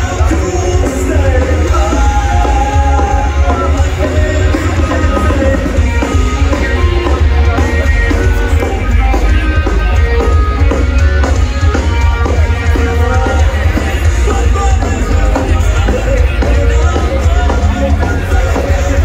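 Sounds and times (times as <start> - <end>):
distorted electric guitar: 0.0 - 19.0
driving drum kit: 0.0 - 19.0
live rock band playing: 0.0 - 19.0.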